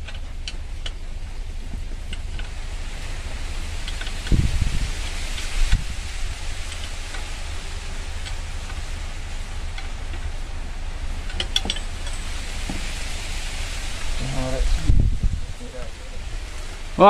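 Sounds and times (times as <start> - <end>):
engine low rumble: 0.0 - 17.0.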